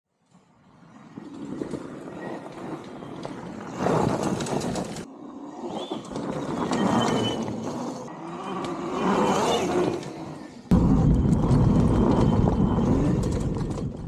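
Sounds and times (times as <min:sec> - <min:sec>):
electric dirt bike riding past: 0:00.6 - 0:10.7, 0:11.4 - 0:14.0.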